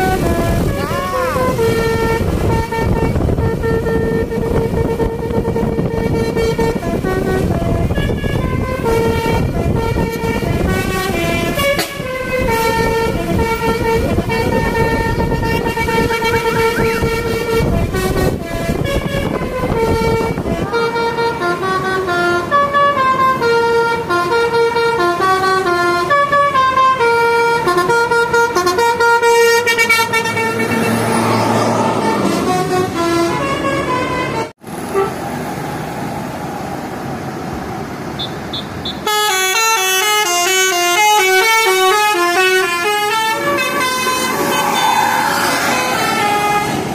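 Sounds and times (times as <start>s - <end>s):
musical bus air horns: 0.0s - 35.3s, 38.2s - 46.9s
bus engine: 0.0s - 46.9s.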